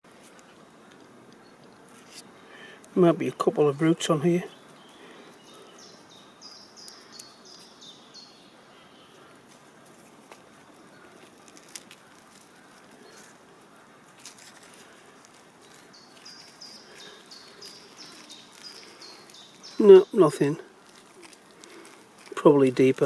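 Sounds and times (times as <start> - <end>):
songbird chirping: 0.0 - 23.0
soil and twigs crackling by hand: 0.1 - 23.0.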